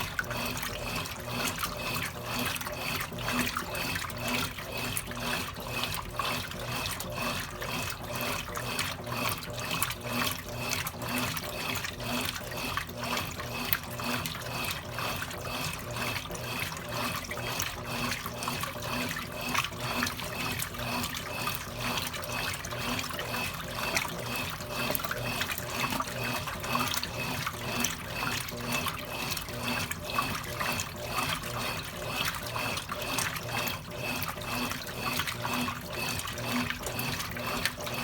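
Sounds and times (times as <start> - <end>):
water washing in washing machine: 0.0 - 38.0.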